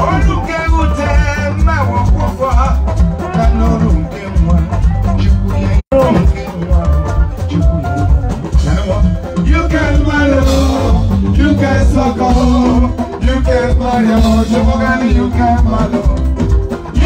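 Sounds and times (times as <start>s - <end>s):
live band playing through a pa: 0.0s - 17.0s
man singing into a microphone: 0.0s - 17.0s.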